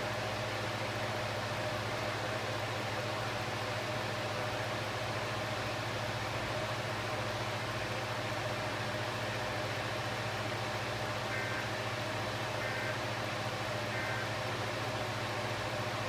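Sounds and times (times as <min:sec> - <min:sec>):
hiss and low hum: 0:00.0 - 0:16.0.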